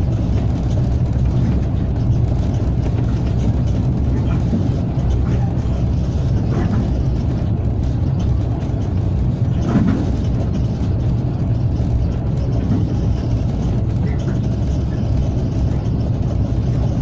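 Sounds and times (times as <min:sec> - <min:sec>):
locomotive cab rumble: 0:00.0 - 0:17.0.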